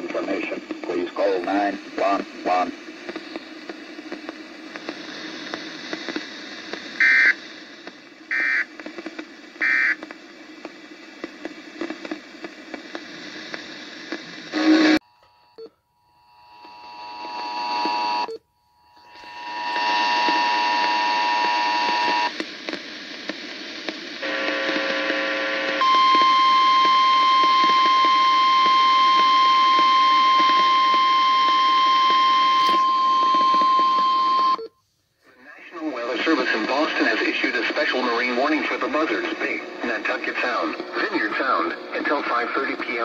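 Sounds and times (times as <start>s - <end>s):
radio carrier hiss: 0.0s - 15.0s, 16.5s - 18.3s, 19.0s - 34.4s, 35.2s - 43.0s.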